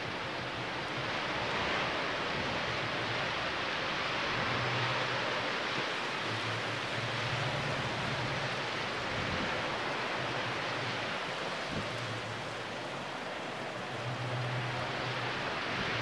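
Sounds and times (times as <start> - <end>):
rushing seaside noise: 0.0 - 16.0.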